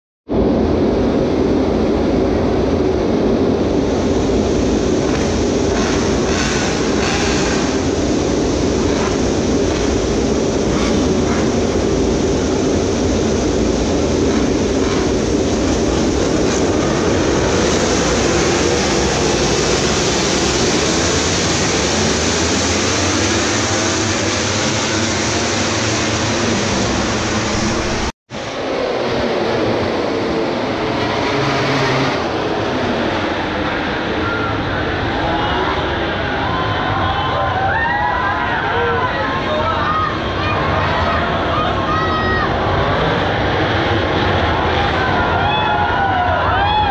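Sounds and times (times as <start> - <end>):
racing motorcycle engines: 0.4 - 46.9.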